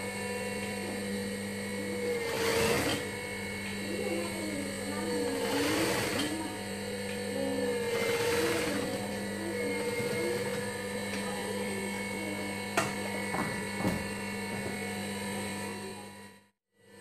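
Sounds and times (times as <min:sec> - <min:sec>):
sewing machine motor humming: 0:00.0 - 0:16.1.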